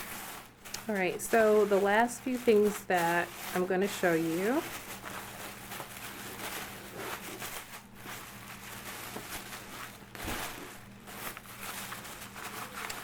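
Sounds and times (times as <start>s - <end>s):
low electrical hum: 0.0s - 13.0s
rustling and handling noises: 0.0s - 13.0s.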